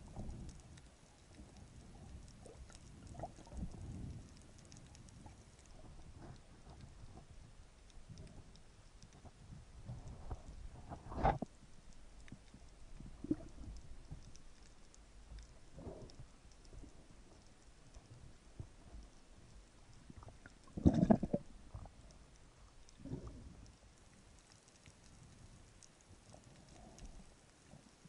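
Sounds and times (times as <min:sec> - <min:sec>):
faint ticks: 0:00.0 - 0:28.0
muffled water gurgles and bubbles: 0:00.0 - 0:28.0
underwater low rumble: 0:00.0 - 0:28.0.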